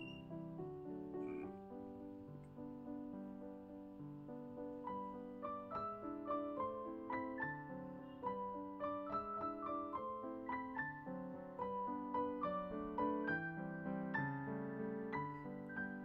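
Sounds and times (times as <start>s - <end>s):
slow piano-like melody: 0.0s - 16.0s.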